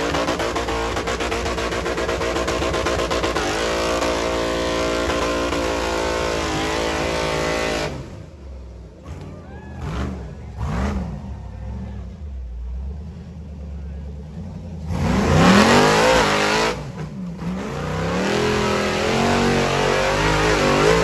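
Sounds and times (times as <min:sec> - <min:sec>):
buggy engine at high revs: 0:00.0 - 0:21.0.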